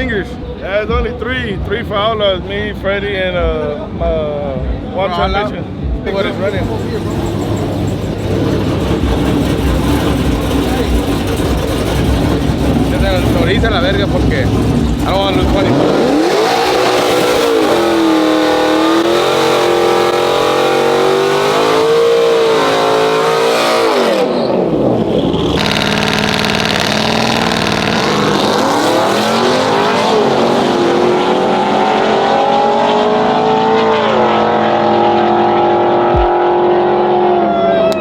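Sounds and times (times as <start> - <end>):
truck engines revving: 0.0 - 38.0.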